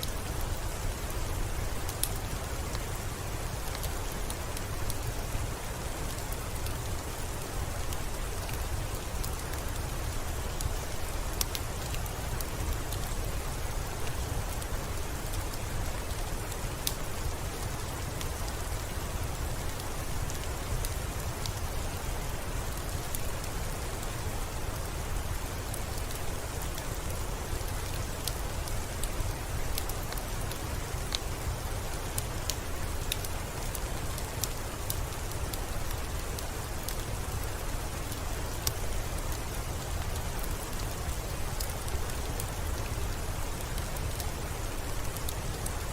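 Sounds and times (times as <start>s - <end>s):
steady rainfall: 0.0s - 45.9s.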